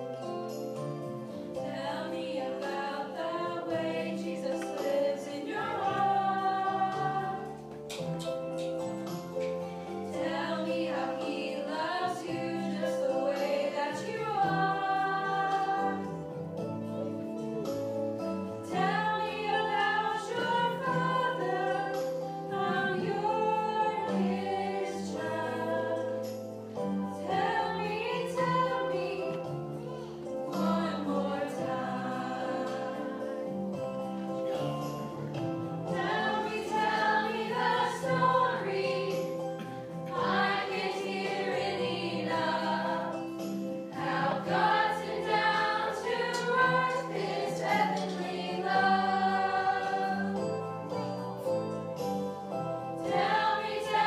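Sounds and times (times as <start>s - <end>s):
instrumental accompaniment: 0.0s - 54.0s
girls singing duet: 1.3s - 17.8s, 18.6s - 54.0s.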